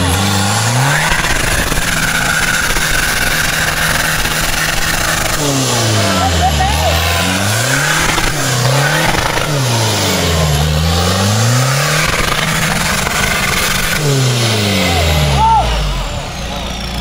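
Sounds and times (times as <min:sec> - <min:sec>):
diesel engine revving under load: 0:00.0 - 0:17.0.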